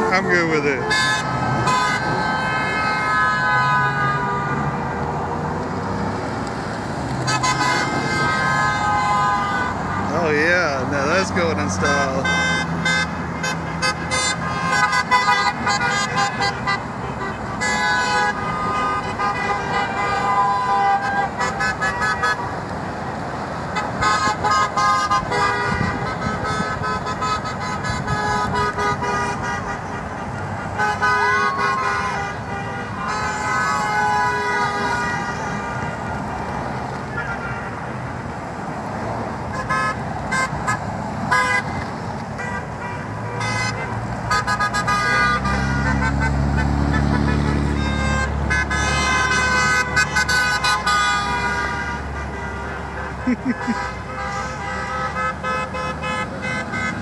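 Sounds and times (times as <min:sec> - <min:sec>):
car horns honking: 0:00.0 - 0:06.4, 0:07.0 - 0:38.2, 0:39.5 - 0:57.0
passing road traffic: 0:00.0 - 0:57.0.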